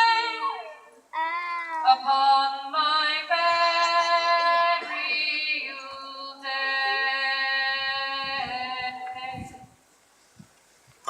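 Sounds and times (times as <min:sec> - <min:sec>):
person singing mournful song: 0:00.0 - 0:09.7.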